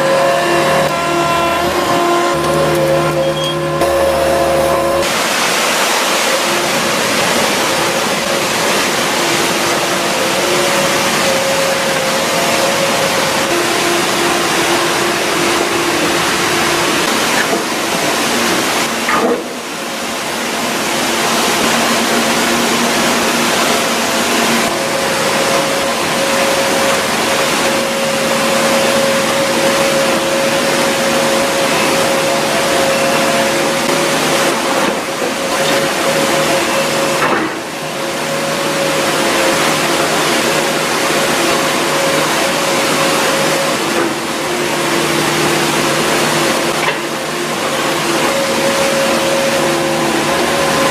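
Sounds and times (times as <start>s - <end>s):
heavy machinery running: 0.0s - 50.9s.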